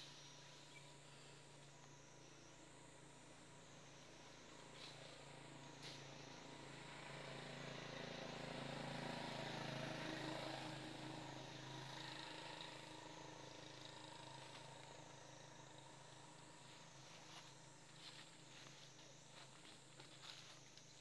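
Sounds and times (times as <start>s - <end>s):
distant engine hum: 0.0s - 21.0s.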